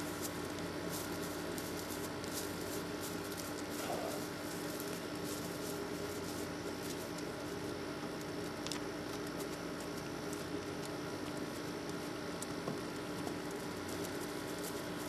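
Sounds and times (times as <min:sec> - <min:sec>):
constant hiss: 0:00.0 - 0:15.0
low steady hum: 0:00.0 - 0:15.0.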